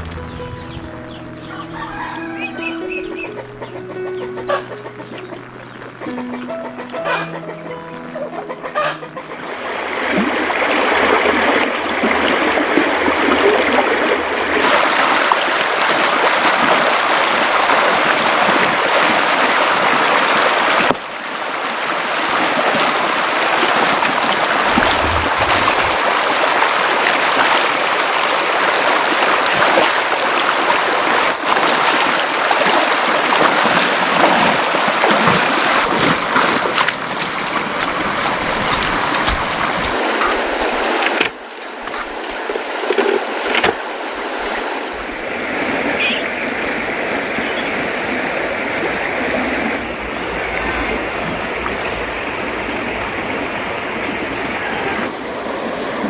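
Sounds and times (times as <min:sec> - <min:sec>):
river rushing over rapids: 0:09.2 - 0:56.0.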